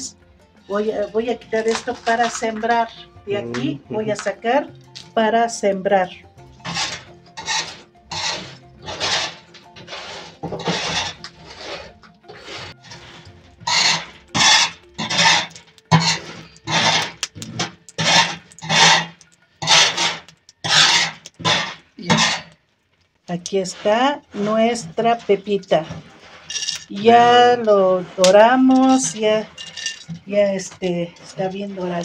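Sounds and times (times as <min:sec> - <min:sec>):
seeds scraping on hot metal: 0:00.7 - 0:03.5, 0:06.6 - 0:22.6, 0:23.3 - 0:32.0.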